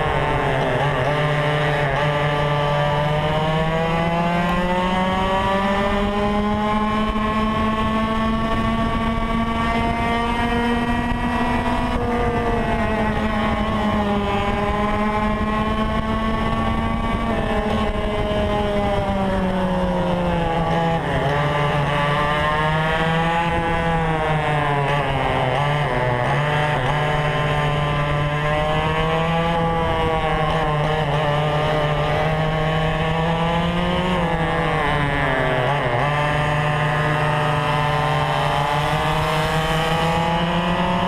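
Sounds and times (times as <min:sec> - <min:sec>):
two-stroke kart engine racing: 0:00.0 - 0:41.0.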